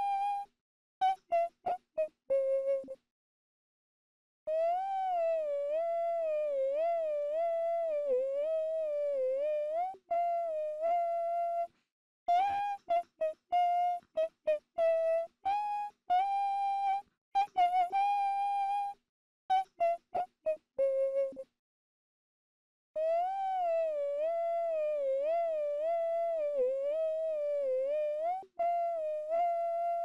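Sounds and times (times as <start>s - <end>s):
high voice humming a melody: 0.0s - 3.0s, 4.5s - 21.5s, 23.0s - 30.0s.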